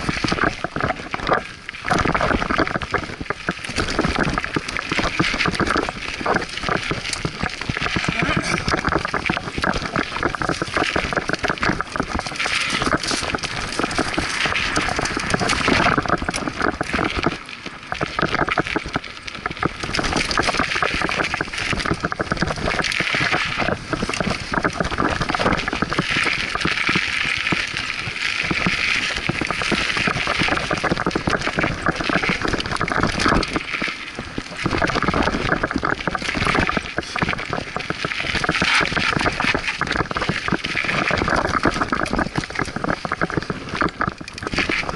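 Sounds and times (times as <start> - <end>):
bicycle tyres on dirt trail: 0.0 - 44.9
wind noise on microphone: 0.0 - 44.9.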